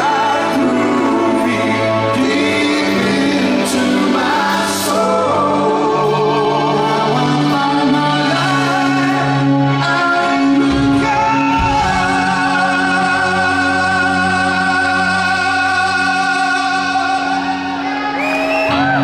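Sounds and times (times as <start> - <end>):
person singing with vibrato: 0.0 - 19.0
rock band held chords: 0.0 - 19.0.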